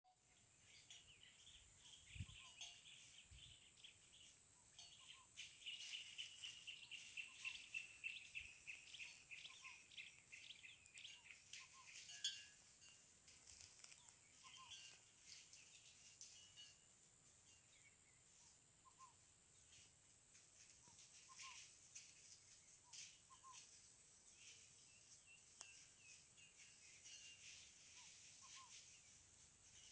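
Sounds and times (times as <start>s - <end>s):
small birds chirping: 0.1s - 29.9s.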